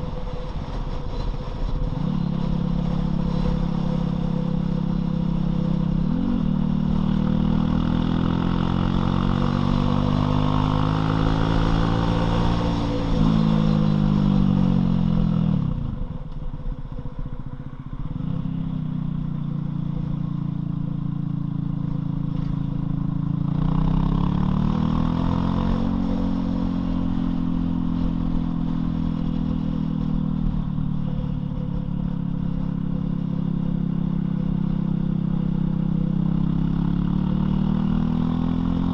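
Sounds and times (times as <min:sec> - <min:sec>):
motorcycle engine revving: 0:01.1 - 0:38.9.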